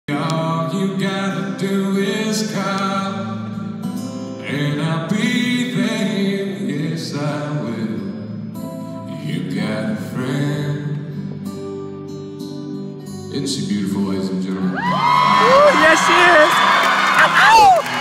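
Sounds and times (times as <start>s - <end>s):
acoustic guitars strummed: 0.1s - 15.4s.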